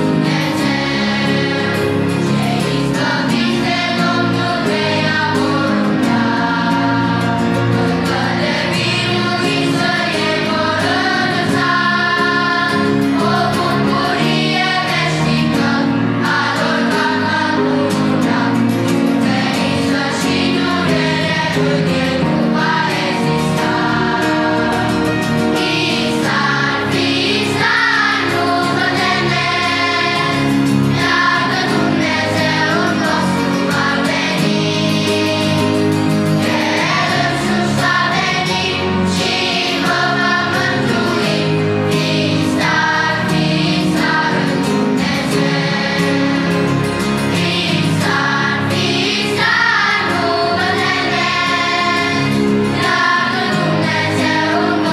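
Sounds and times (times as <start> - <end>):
children's choir singing: 0.0 - 54.9.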